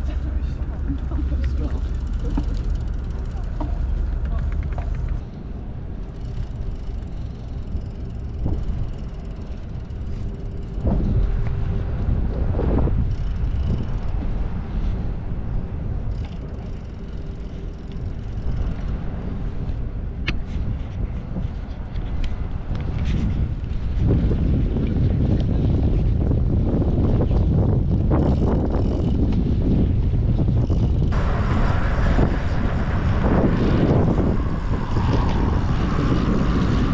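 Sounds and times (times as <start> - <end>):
bicycle running noise: 0.0 - 36.9
wind buffeting microphone: 0.0 - 36.9.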